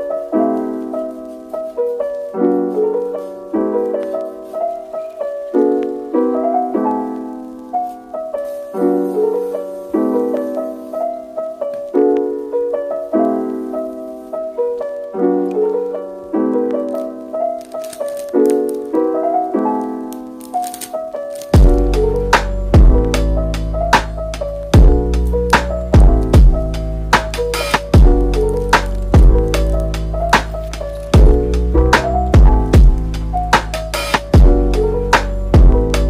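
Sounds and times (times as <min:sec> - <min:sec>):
soft piano music: 0:00.0 - 0:36.0.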